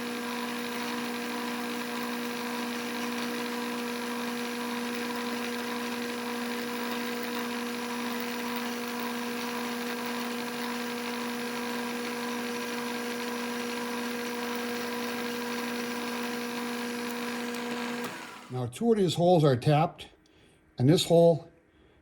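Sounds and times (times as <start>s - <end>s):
milling machine humming: 0.0s - 18.6s.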